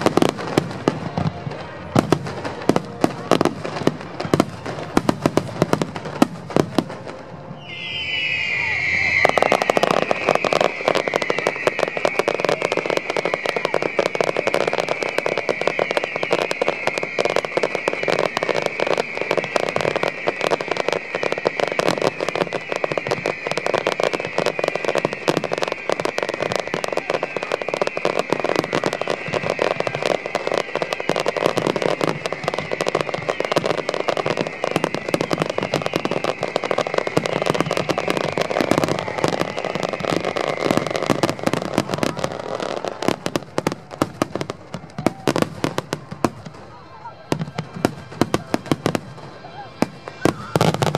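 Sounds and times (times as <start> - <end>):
fireworks bursting and crackling: 0.0 - 50.9.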